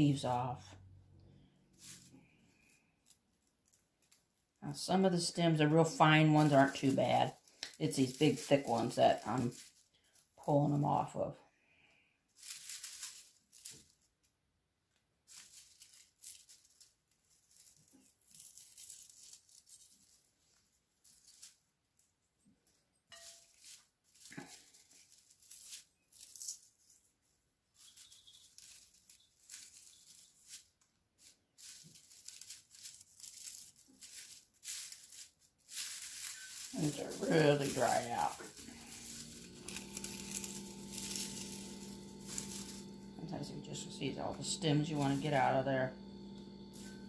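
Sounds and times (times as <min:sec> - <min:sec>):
dried leaves crackling and rustling: 0:00.0 - 0:00.8, 0:01.6 - 0:14.3, 0:15.2 - 0:47.0.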